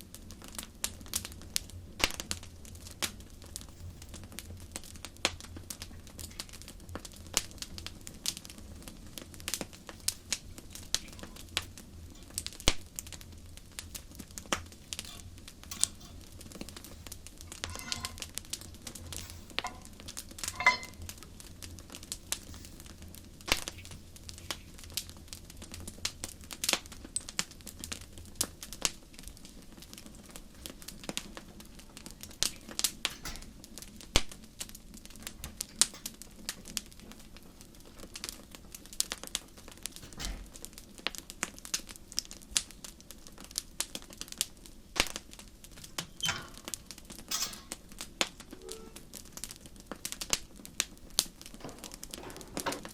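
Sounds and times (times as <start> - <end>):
burning logs crackling: 0.0 - 52.9.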